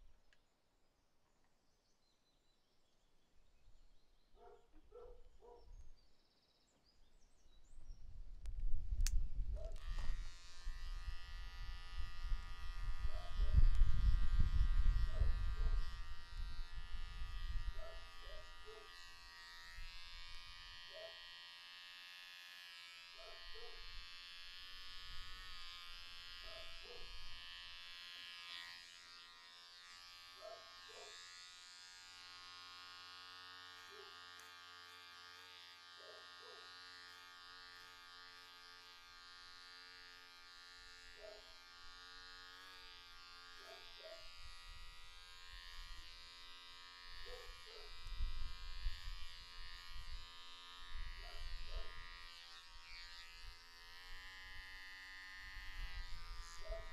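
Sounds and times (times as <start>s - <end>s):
electric hair clipper buzzing: 9.0s - 56.9s.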